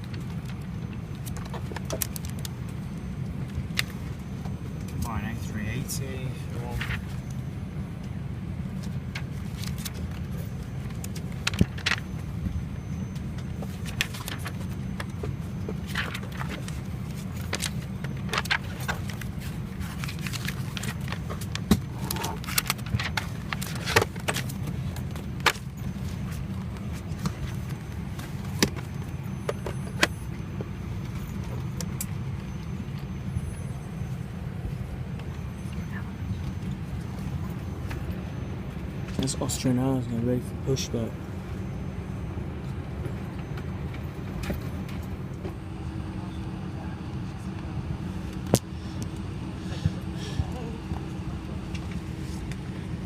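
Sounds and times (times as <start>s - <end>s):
aircraft air system hum: 0.0s - 53.0s.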